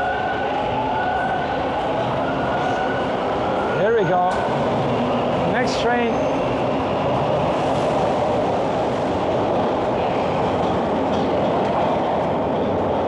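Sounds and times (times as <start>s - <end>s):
loud rail noise: 0.0s - 13.0s
subway train running: 0.0s - 13.0s.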